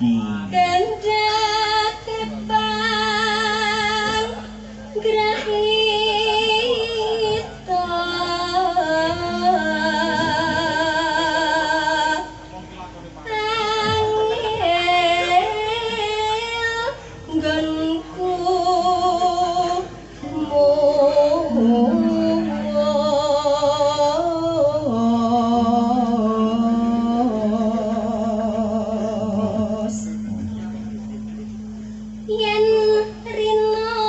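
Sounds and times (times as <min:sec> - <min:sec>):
steady low note: 0:00.0 - 0:12.6, 0:17.2 - 0:34.0
woman singing with vibrato: 0:00.5 - 0:12.4, 0:13.3 - 0:30.3, 0:32.0 - 0:34.0.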